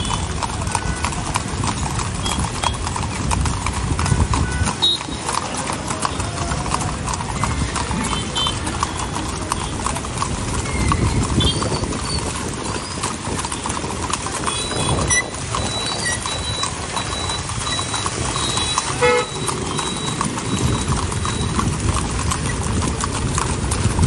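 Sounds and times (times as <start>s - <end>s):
horse hooves on wet pavement: 0.0s - 24.0s.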